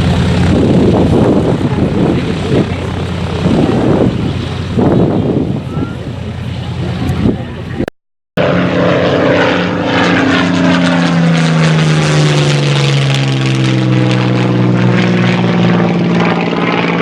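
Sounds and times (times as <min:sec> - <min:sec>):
propeller airplane flying past: 0:00.0 - 0:17.0.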